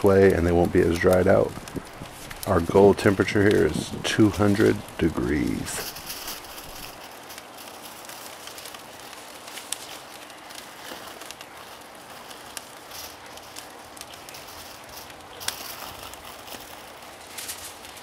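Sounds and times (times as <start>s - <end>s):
aluminium foil crinkling: 0.0s - 18.0s.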